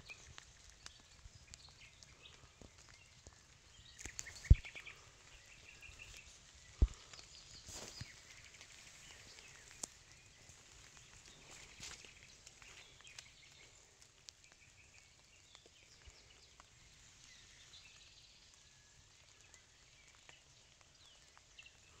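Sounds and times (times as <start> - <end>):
distant birds chirping: 0.0 - 18.0
faint clicks: 0.1 - 18.1.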